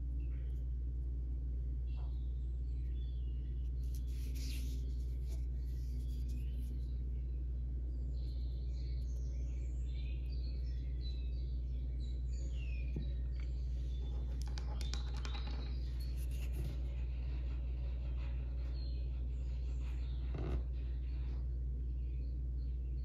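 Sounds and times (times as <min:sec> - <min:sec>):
steady low hum: 0:00.0 - 0:23.0
birds chirping: 0:01.7 - 0:23.0.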